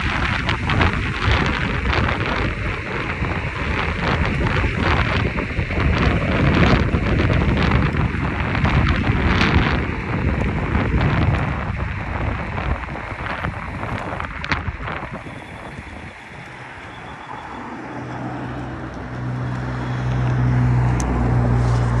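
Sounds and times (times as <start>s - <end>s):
low engine hum: 0.0s - 22.0s
passing road traffic: 0.0s - 22.0s
wind rushing over microphone: 0.0s - 22.0s.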